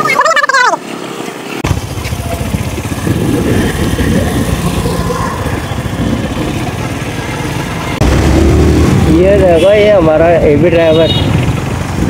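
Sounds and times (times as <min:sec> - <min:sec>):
motorcycle engine and road rumble: 0:01.6 - 0:12.0.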